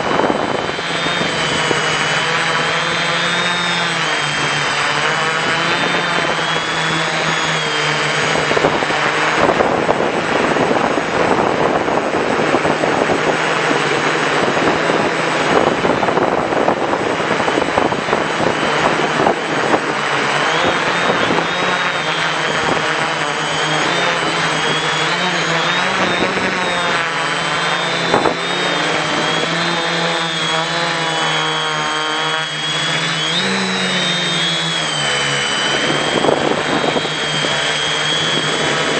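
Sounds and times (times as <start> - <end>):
drone motors buzzing and whining: 0.0 - 38.9
rushing air: 0.0 - 38.9.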